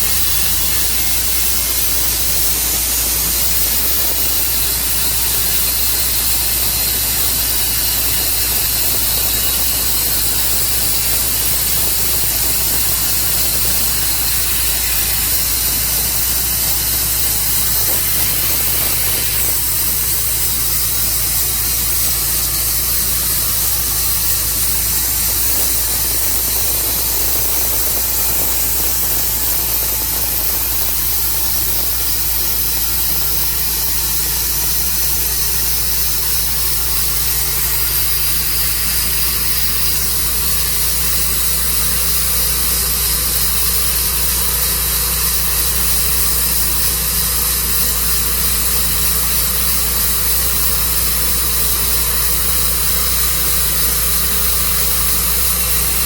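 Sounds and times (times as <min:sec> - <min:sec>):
constant hiss: 0:00.0 - 0:56.0
sawmill engine running: 0:00.0 - 0:56.0.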